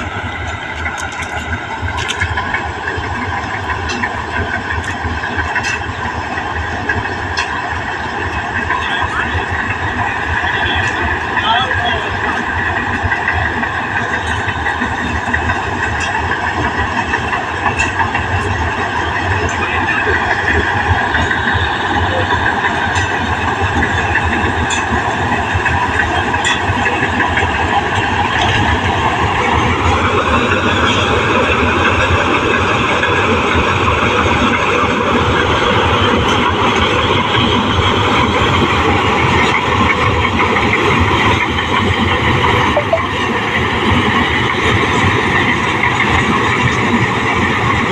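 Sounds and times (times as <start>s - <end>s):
combine harvester running: 0.0s - 47.9s.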